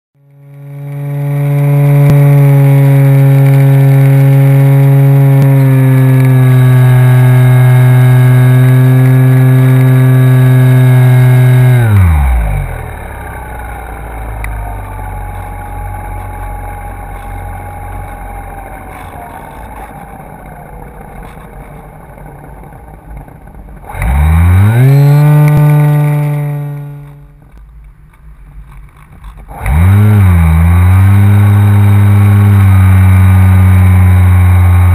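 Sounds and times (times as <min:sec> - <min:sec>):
model plane motor and propeller: 0:00.2 - 0:34.9.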